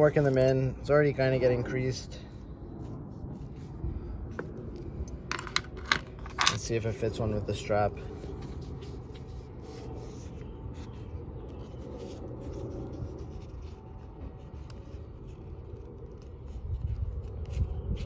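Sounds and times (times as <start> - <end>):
rubbing and rustling of strap: 2.7 - 7.2, 8.1 - 18.0.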